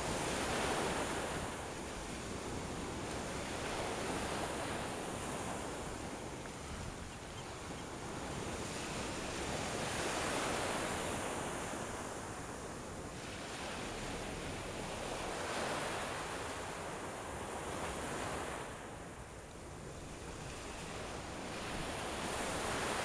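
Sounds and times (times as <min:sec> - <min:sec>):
waves washing up a sandy beach: 0:00.0 - 0:23.0.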